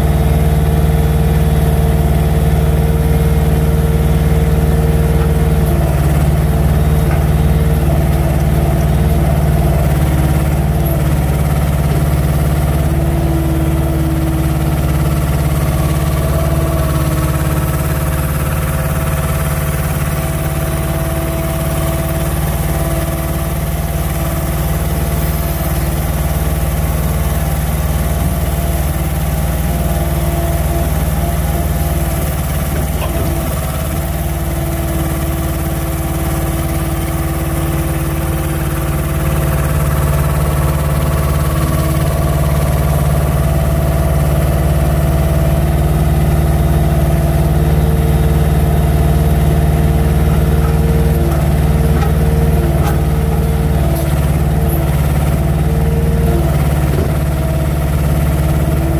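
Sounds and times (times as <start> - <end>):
truck diesel engine running: 0.0 - 58.9.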